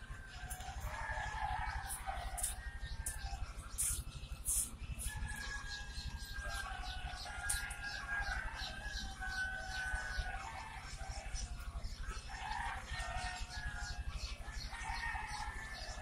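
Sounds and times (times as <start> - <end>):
steady low hum: 0.0 - 14.9
baby chicks peeping: 0.0 - 16.0.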